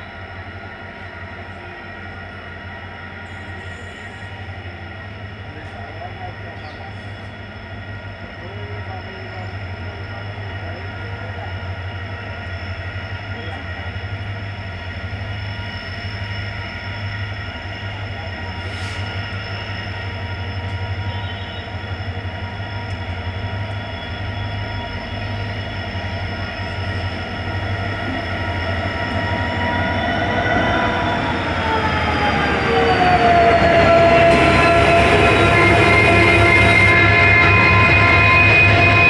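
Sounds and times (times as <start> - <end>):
diesel locomotive engine drone: 0.0 - 39.0
locomotive high whine: 0.0 - 39.0.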